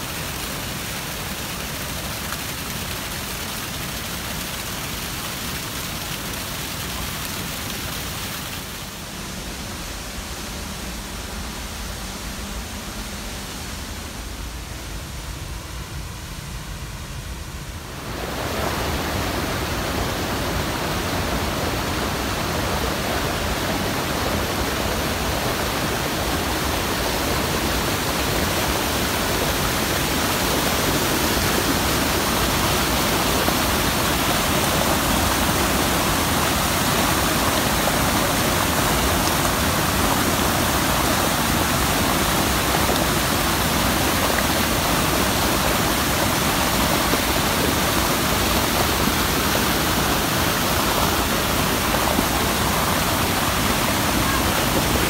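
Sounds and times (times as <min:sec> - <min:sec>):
water rushing over rocks: 0:00.0 - 0:14.6, 0:17.8 - 0:55.0.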